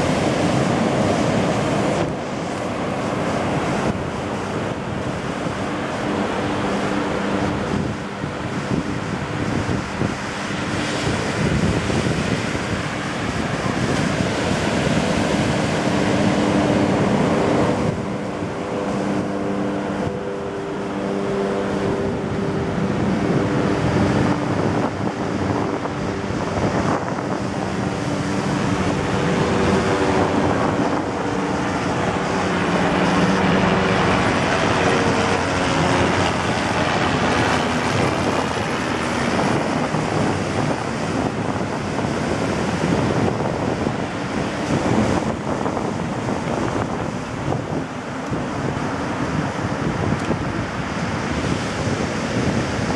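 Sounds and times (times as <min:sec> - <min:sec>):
surf breaking on beach: 0:00.0 - 0:52.9
wind buffeting microphone: 0:00.0 - 0:52.9.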